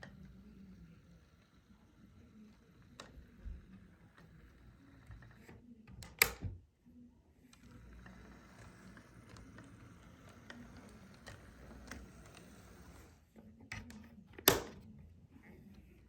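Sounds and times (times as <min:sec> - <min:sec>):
model train motor hum: 0:00.0 - 0:06.2, 0:07.4 - 0:14.7.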